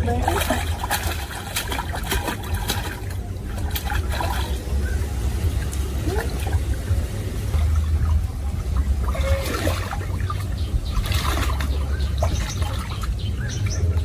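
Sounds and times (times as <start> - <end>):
low rumble: 0.0 - 14.0
pool water splashing: 0.0 - 14.0.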